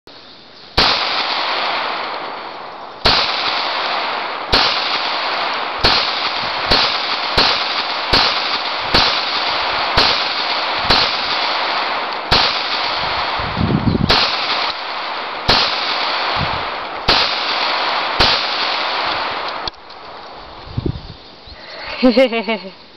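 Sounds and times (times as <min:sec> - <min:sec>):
gunshots with long echo: 0:00.8 - 0:19.8.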